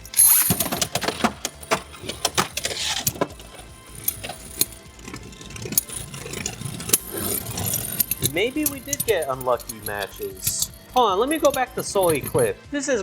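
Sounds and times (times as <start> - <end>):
spinning top whir: 0.0 - 12.5
spinning tops clicking and knocking: 0.0 - 12.6.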